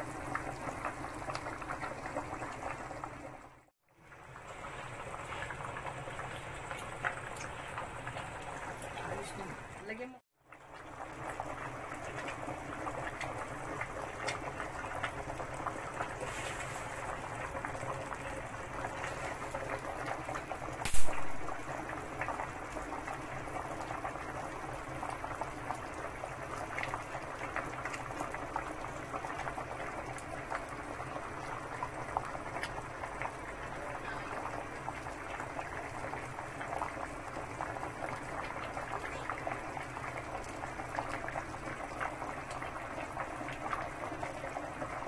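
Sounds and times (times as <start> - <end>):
stew boiling and bubbling: 0.0 - 45.0.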